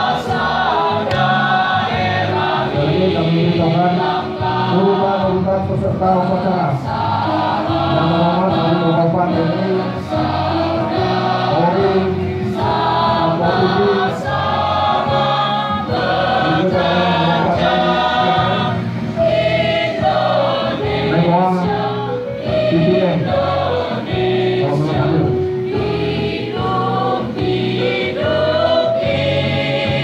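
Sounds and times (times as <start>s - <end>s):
children's choir singing: 0.0s - 5.6s, 6.6s - 30.0s.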